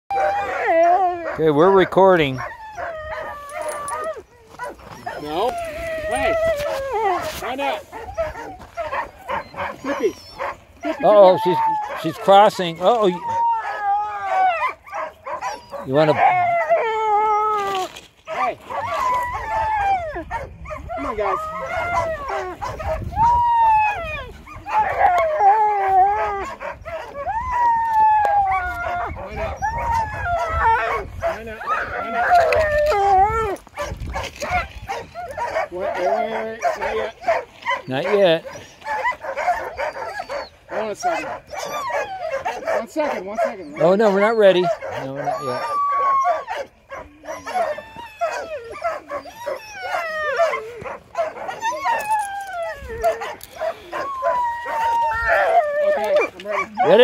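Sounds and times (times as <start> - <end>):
dogs howling and whining: 0.1 - 57.0.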